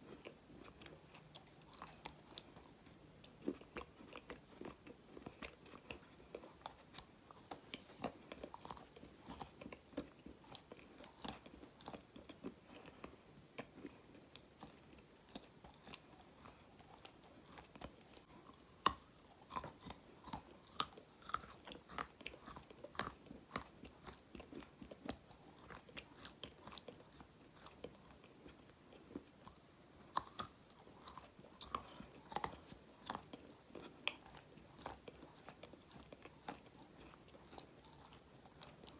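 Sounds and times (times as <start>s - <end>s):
clay crunching while chewed: 0.0s - 38.9s.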